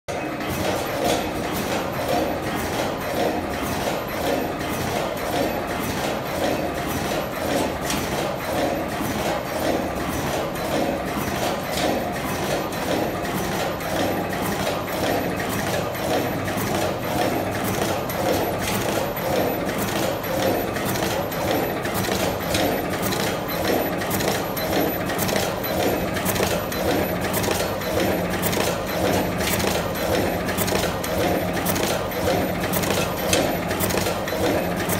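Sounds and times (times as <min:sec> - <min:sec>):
machine clacking: 0:00.1 - 0:34.9
mechanical hum: 0:00.1 - 0:34.9.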